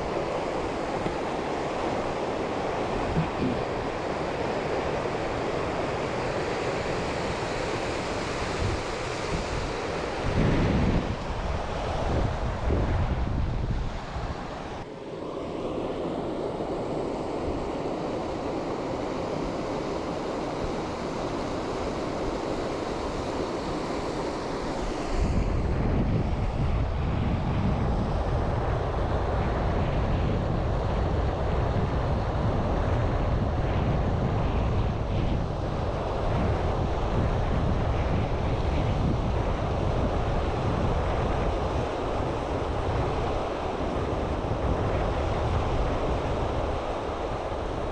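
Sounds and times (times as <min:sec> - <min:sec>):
wind buffeting microphone: 0:00.0 - 0:14.9, 0:16.9 - 0:47.9
steady rushing haze: 0:00.0 - 0:47.9.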